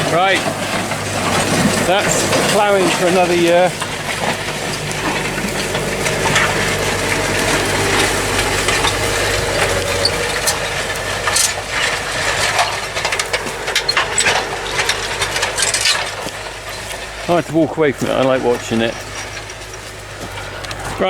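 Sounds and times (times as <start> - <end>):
plough clanking and rattling: 0.0 - 21.0
tractor engine running: 0.0 - 21.0.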